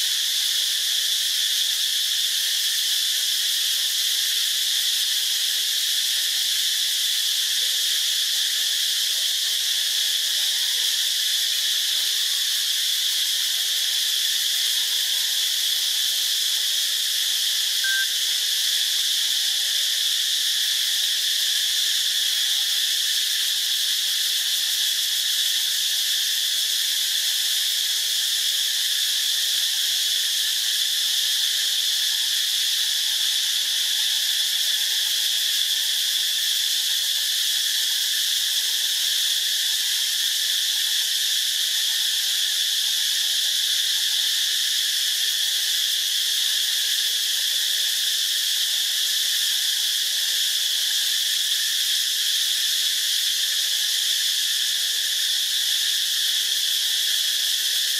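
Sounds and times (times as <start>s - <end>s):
insect chorus drone: 0.0s - 57.9s.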